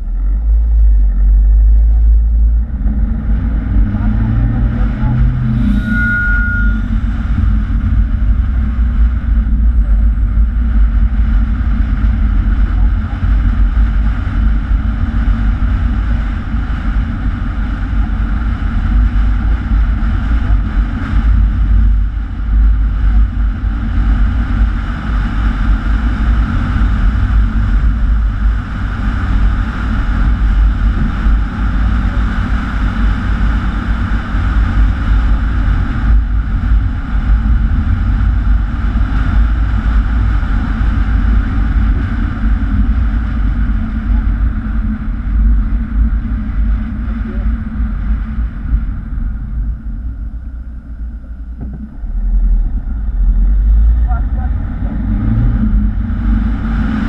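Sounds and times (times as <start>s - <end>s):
wind buffeting microphone: 6.4s - 57.0s.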